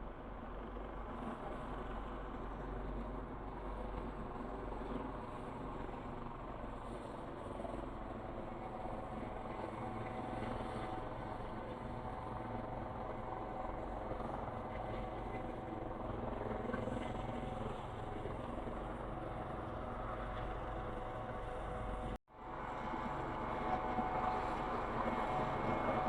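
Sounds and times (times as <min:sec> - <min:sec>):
aircraft engines droning: 0:01.4 - 0:26.0.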